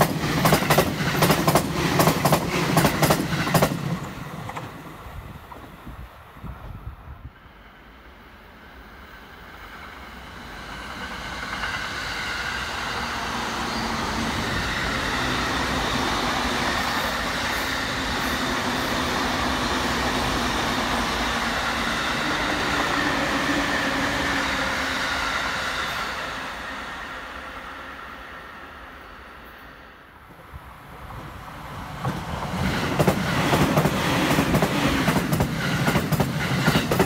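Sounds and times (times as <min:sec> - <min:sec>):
train wheels rumbling on rails: 0:00.0 - 0:28.8, 0:30.3 - 0:37.0
faint train whine: 0:00.0 - 0:37.0.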